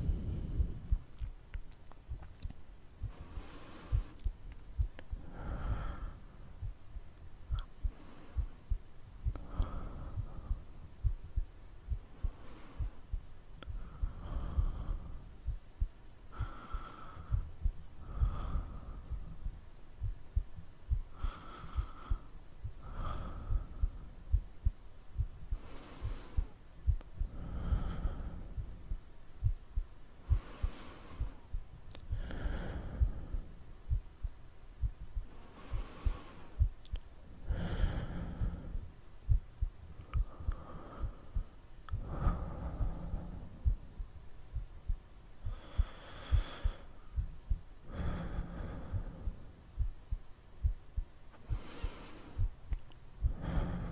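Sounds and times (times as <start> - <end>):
deep human breathing: 0.0 - 1.4, 2.1 - 53.9
soft low heartbeat thumps: 0.0 - 53.9.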